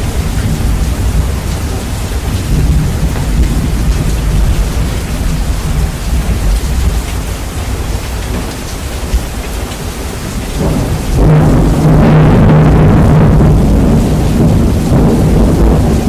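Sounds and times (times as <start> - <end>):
heavy rain: 0.0 - 16.0
rumbling thunder: 0.0 - 16.0.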